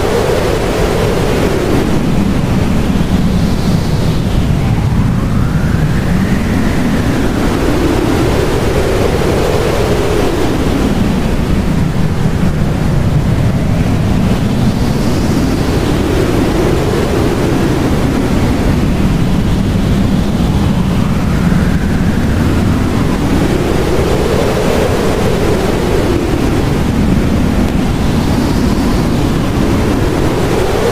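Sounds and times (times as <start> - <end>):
blizzard wind blowing hard: 0.0 - 30.9.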